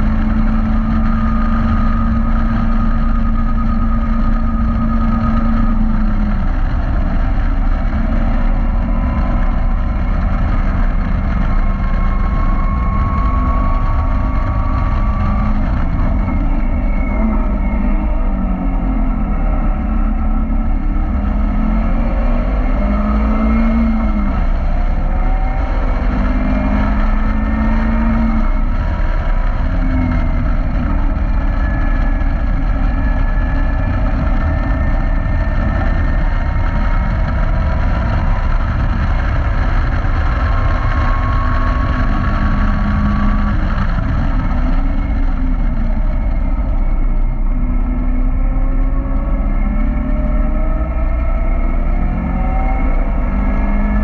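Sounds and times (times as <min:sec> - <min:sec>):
heavy wind: 0:00.0 - 0:54.0
road rumble: 0:00.0 - 0:54.0
sports car engine revving: 0:00.0 - 0:54.0.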